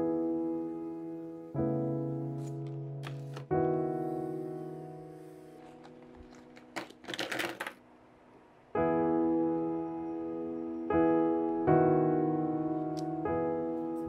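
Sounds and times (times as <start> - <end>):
piano chords: 0.0 - 6.9, 7.8 - 14.0.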